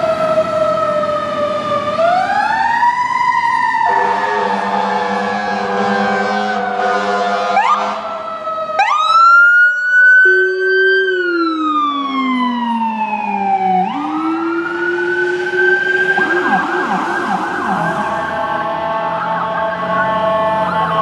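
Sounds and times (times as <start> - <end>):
ambulance siren wail and yelp: 0.0 - 21.0.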